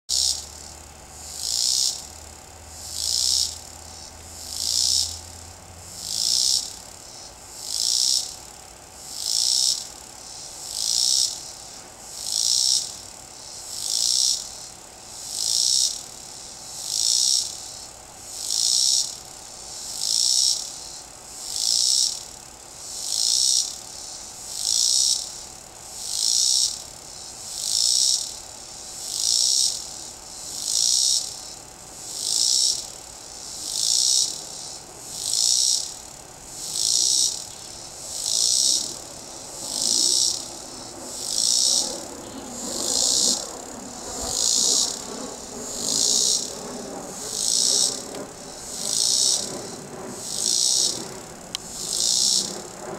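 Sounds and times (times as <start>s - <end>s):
cicada singing: 0.1s - 52.9s.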